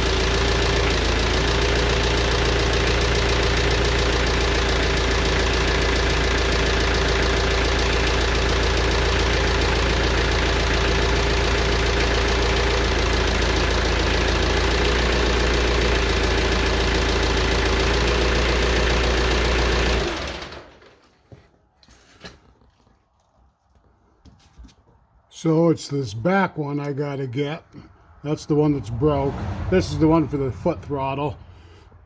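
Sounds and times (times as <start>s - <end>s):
tractor diesel engine idling: 0.0s - 21.0s, 25.4s - 32.0s.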